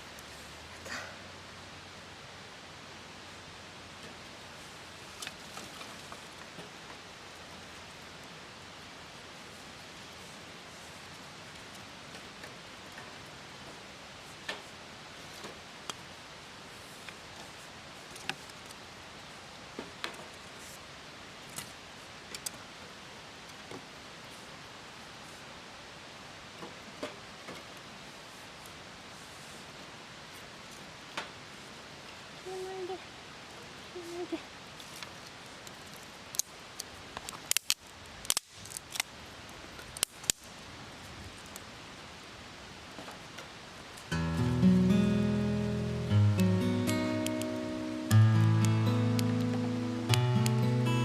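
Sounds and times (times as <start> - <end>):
campfire crackling: 0.0 - 51.0
soft steady hiss: 0.0 - 51.0.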